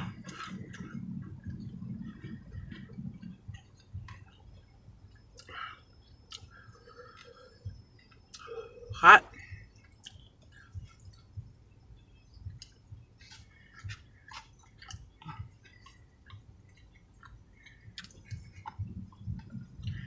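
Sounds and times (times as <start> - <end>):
person chewing food wetly: 0.0 - 20.0.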